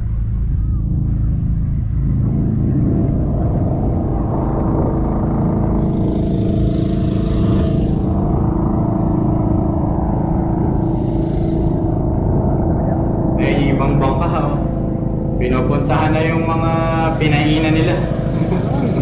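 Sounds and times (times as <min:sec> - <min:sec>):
small boat engine droning: 0:00.0 - 0:19.0.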